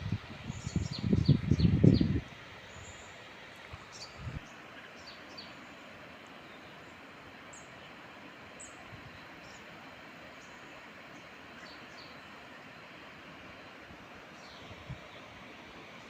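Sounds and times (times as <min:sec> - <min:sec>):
small birds chirping: 0:00.0 - 0:12.8, 0:13.6 - 0:16.0
steady outdoor hiss: 0:00.0 - 0:16.0.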